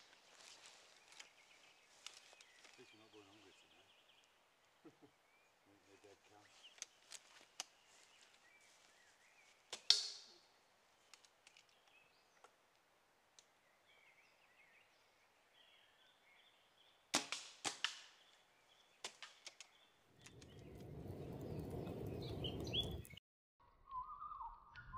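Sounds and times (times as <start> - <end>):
faint birdsong: 0.0 - 12.7, 13.3 - 17.1, 18.1 - 23.2.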